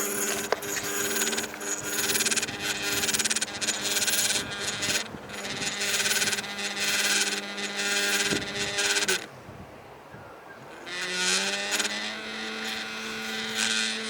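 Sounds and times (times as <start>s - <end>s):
raspy rattling buzz: 0.0s - 9.4s, 10.6s - 14.0s
steady hum: 0.0s - 14.0s.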